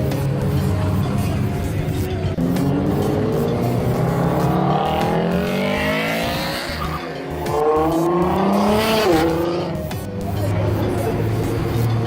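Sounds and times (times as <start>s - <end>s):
car engine revving: 0.0s - 12.0s
tyres squealing: 0.0s - 12.0s.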